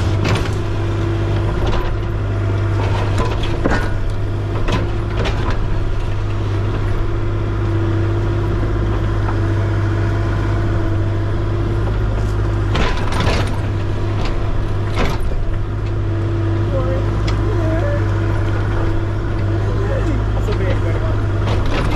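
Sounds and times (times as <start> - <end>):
engine running steadily: 0.0 - 21.9.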